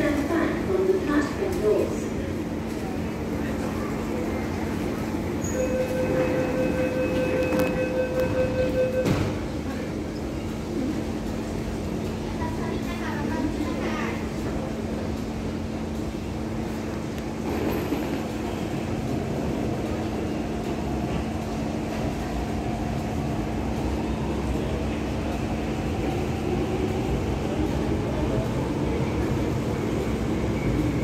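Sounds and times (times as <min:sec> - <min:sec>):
electric train rumble and hum: 0:00.0 - 0:31.0.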